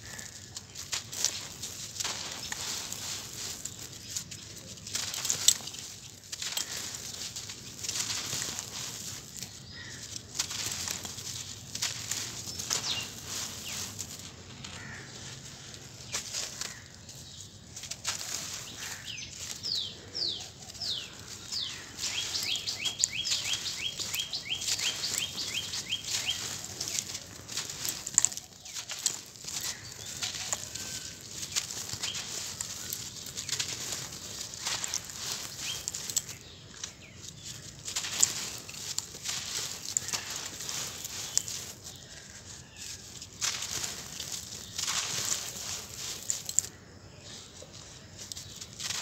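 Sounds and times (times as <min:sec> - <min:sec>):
sand pattering down: 0:00.0 - 0:49.0.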